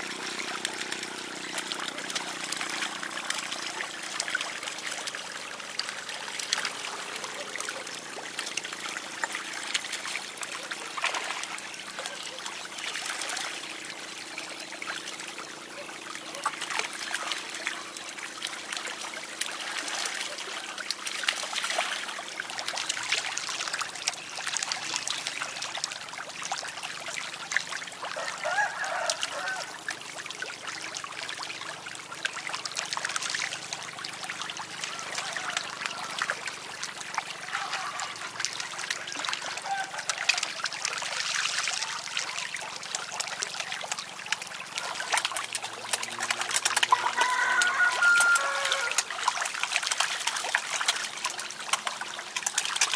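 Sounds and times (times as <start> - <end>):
fish splashing in a pond: 0.0 - 52.9.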